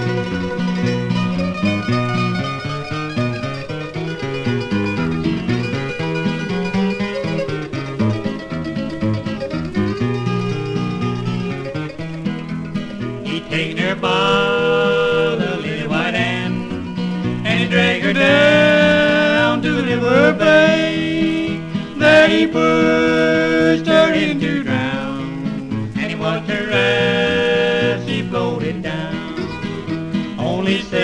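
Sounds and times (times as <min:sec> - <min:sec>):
guitar: 0:00.0 - 0:31.0
mandolin: 0:00.0 - 0:31.0
sliding sung notes: 0:00.0 - 0:31.0.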